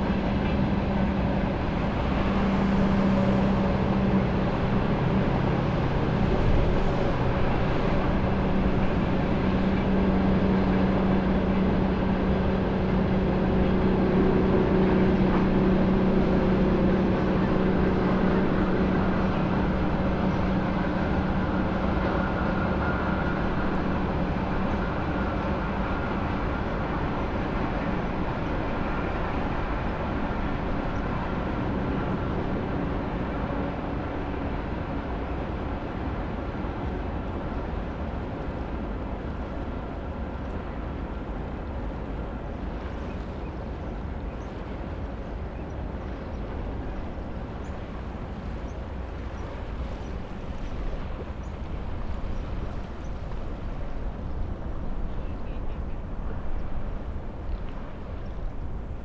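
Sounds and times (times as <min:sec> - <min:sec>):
passing train rumble: 0:00.0 - 0:59.0.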